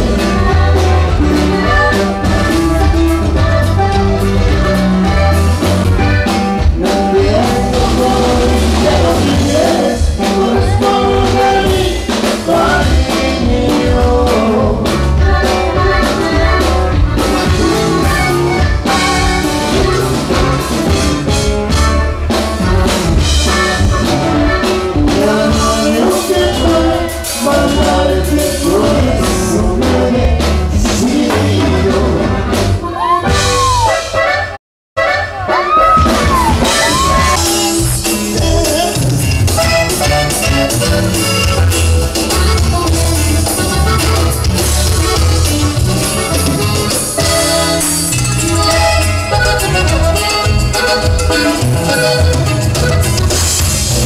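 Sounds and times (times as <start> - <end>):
accordion melody: 0.0 - 54.0
live band playing dance music: 0.0 - 54.0.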